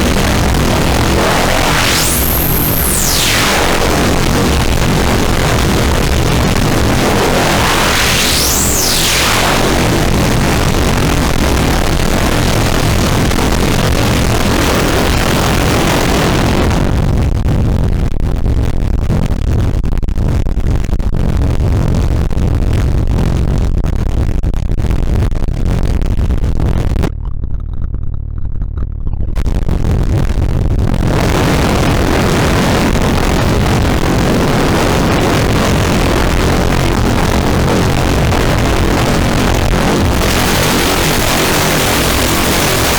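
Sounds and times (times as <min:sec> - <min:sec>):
distorted white-noise drone: 0:00.0 - 0:42.9.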